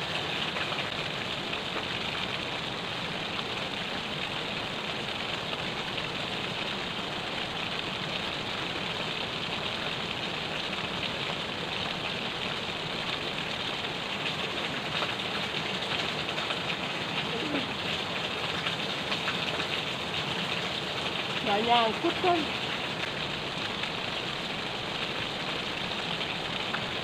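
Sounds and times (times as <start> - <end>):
flowing river water: 0.0 - 27.0.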